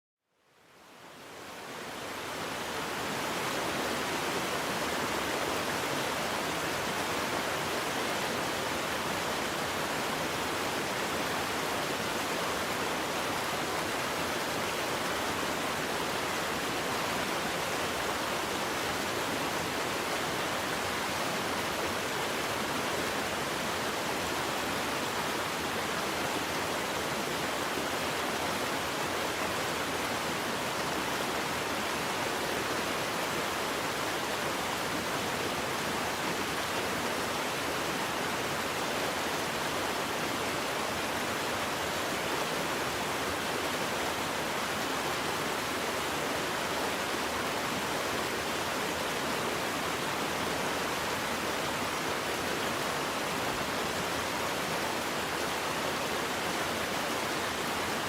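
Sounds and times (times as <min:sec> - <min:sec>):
waterfall rushing: 0:01.6 - 0:58.0.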